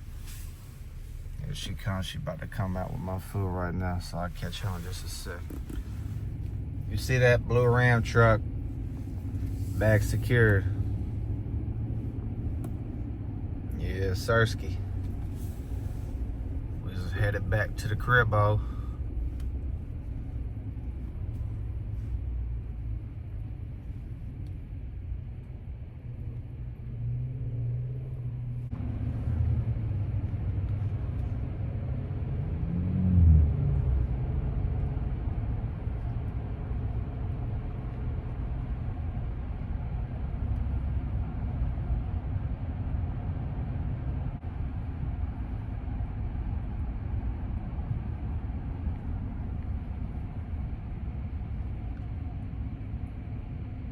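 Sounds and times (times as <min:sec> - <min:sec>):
pickup truck engine: 0:00.0 - 0:53.9
road rumble: 0:00.0 - 0:53.9.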